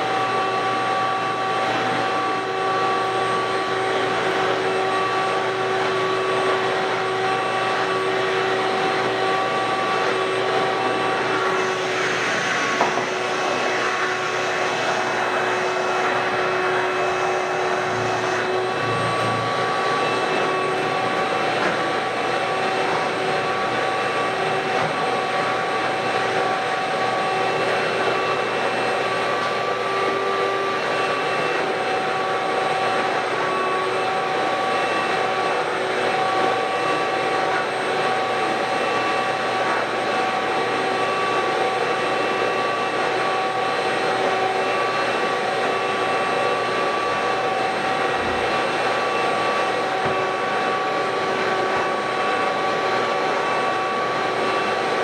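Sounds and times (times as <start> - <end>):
shop vacuum running: 0.0 - 55.0.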